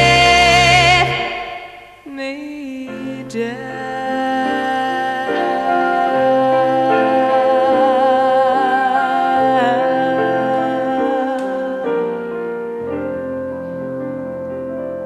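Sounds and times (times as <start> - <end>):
soft ballad on keyboard and piano: 2.7 - 15.0.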